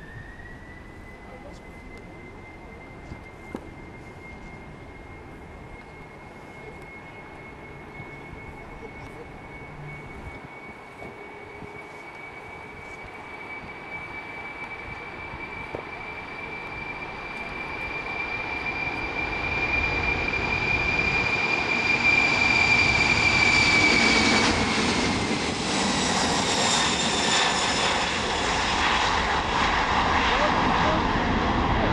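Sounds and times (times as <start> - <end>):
jet engine fan whine: 0.0 - 31.9
jet engine roar: 0.0 - 31.9.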